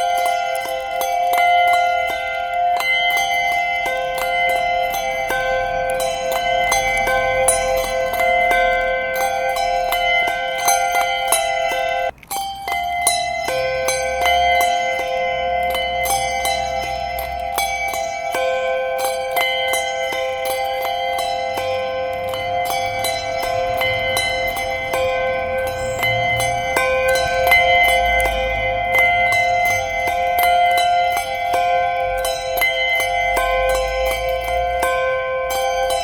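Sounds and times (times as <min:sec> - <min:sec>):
handbells ringing: 0:00.0 - 0:36.0.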